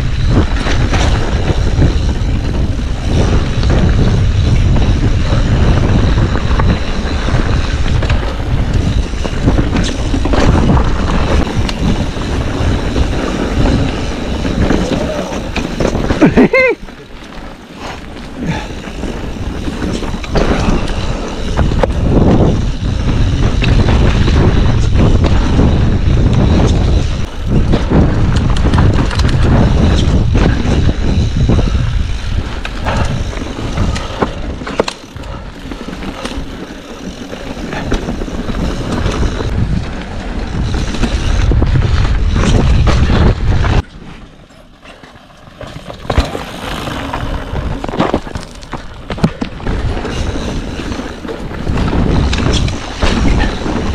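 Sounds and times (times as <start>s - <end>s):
wind buffeting microphone: 0.0s - 44.3s, 45.7s - 53.9s
bike rattling over bumps: 0.0s - 53.9s.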